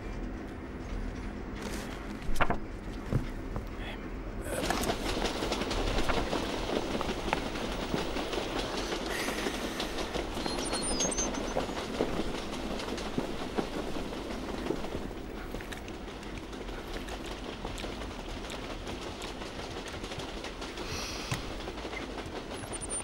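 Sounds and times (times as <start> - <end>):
train wheels clattering on track: 0.0 - 3.8, 4.5 - 23.0.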